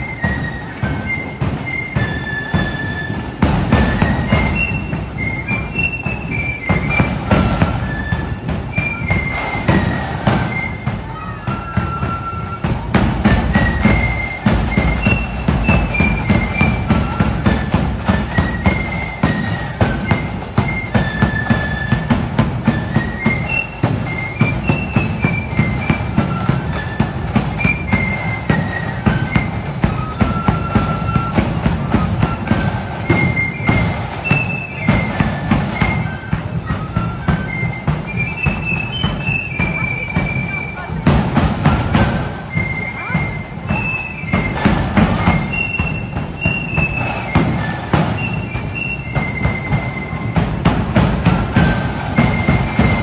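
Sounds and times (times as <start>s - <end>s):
heavy drumbeat: 0.0s - 53.0s
shrill flutes melody: 0.0s - 53.0s.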